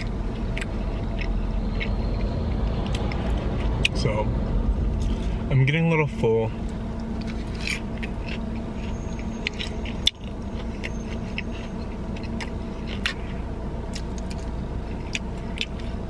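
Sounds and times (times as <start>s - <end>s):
chewing and crunching food: 0.0s - 4.2s, 4.8s - 16.0s
steady low hum: 0.0s - 16.0s.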